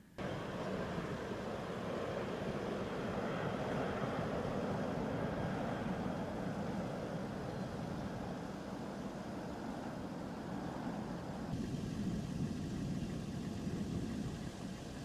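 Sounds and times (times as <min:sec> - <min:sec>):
distant jet engine noise: 0:00.0 - 0:15.0.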